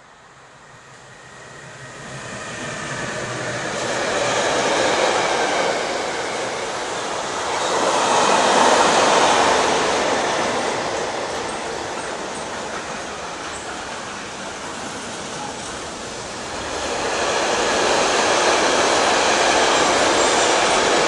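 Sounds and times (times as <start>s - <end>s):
freight train passing: 0.0s - 21.0s.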